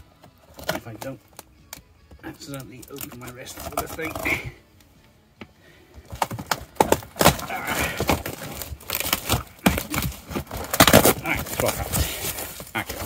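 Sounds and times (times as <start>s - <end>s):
plastic wrap and tape tearing: 0.4s - 4.6s, 6.1s - 13.0s.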